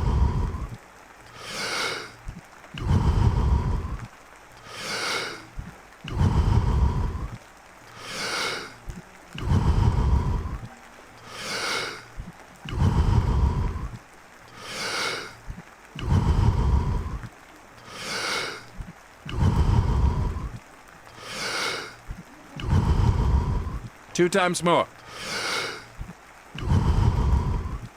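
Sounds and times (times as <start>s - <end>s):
deep rhythmic power breathing: 0.0s - 27.9s.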